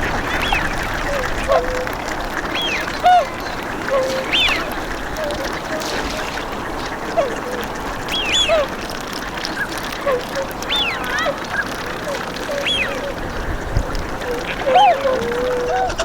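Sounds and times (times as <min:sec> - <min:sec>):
ducks quacking: 0:00.0 - 0:16.0
swans honking: 0:00.0 - 0:16.0.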